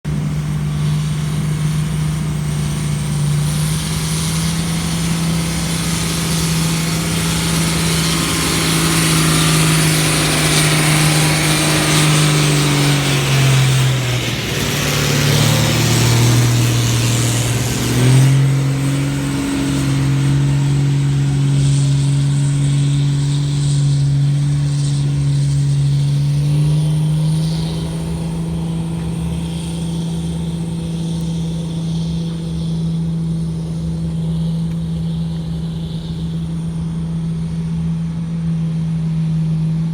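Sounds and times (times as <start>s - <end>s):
heavy diesel engine running: 0.0s - 39.9s
hiss: 0.1s - 39.9s.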